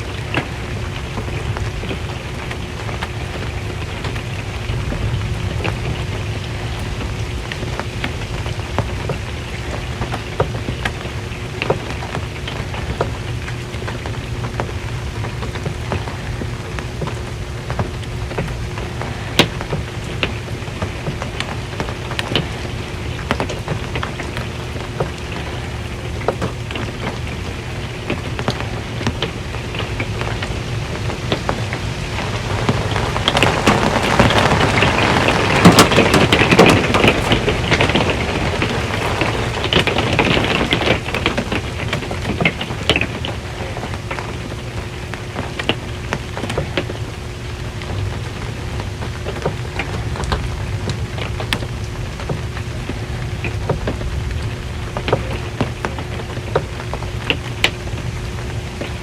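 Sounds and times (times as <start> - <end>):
rain drumming on metal roof: 0.0 - 59.0.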